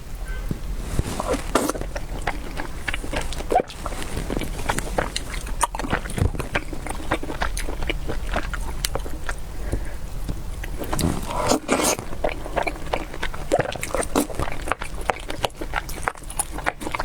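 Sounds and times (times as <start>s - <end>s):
wet chewing and mouth smacks: 0.8s - 17.0s.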